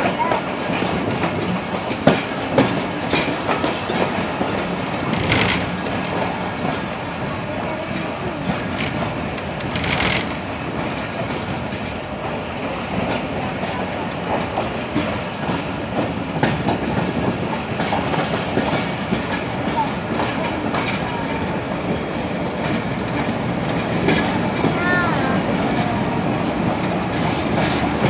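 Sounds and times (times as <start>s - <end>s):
wheels clicking over rail joints: 0.0s - 12.0s, 13.0s - 28.0s
train rumbling on rails: 0.0s - 28.0s.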